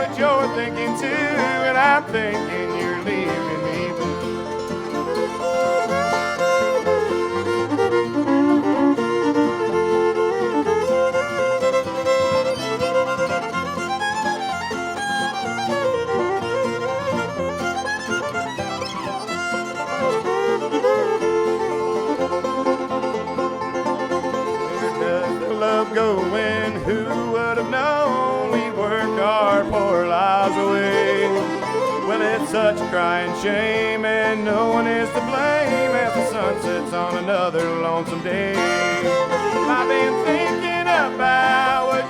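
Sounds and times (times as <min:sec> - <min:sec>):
fiddle playing lead: 0:00.0 - 0:42.0
strummed string-band backing: 0:00.0 - 0:42.0.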